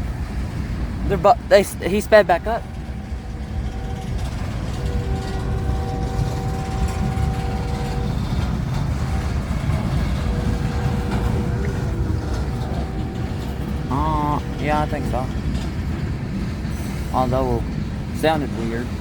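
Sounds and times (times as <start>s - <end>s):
faint steady tones: 0.0s - 19.0s
freight train rumbling past: 0.0s - 19.0s.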